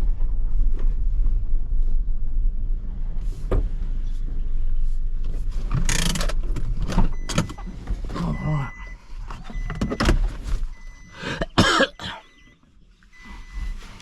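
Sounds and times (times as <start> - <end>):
car rumble inside cabin: 0.0 - 14.0.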